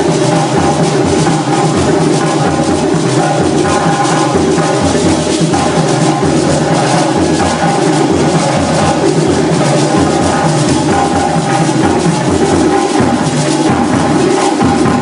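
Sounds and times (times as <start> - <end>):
music with drum beat: 0.0 - 15.0.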